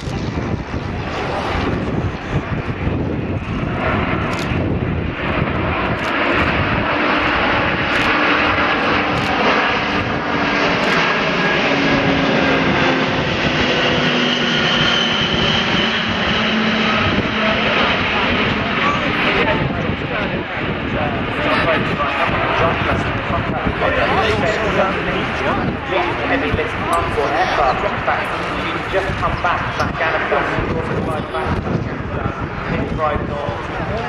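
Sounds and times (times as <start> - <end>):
engine whine: 0.0 - 34.0
jet engines flying past: 0.0 - 34.0.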